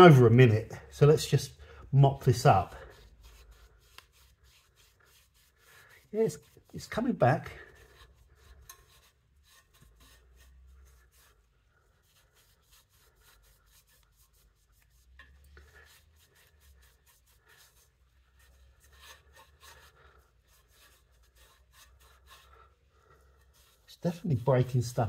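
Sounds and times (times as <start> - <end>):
cloth rubbing inside metal tip: 2.0 - 25.0.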